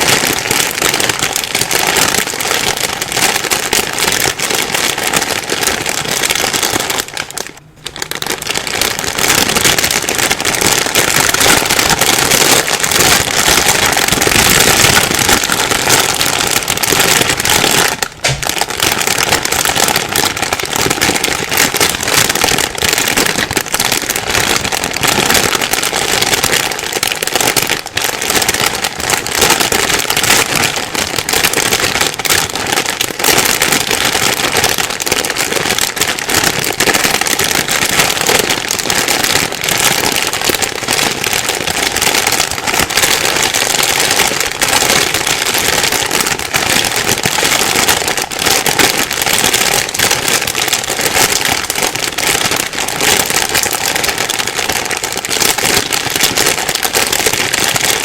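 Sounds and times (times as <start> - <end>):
plastic bag rustling: 0.0 - 58.0.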